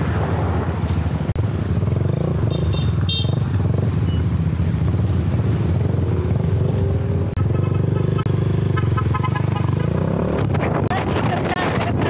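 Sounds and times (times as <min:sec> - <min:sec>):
motorcycle engine running: 0:00.8 - 0:12.0.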